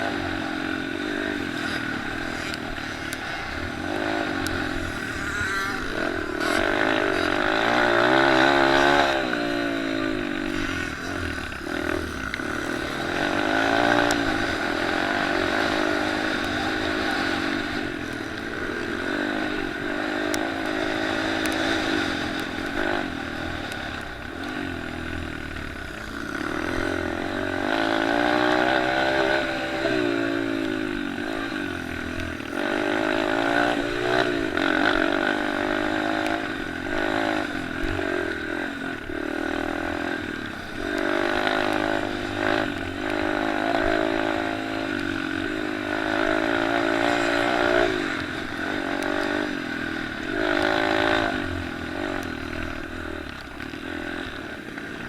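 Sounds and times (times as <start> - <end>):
motorbike engines revving: 0.0 - 55.0.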